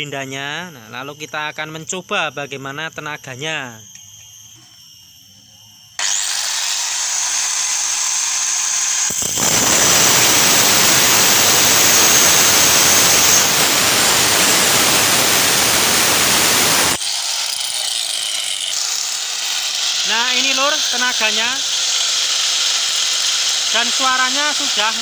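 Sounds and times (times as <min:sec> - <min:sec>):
electric angle grinder whining: 0:00.7 - 0:25.0.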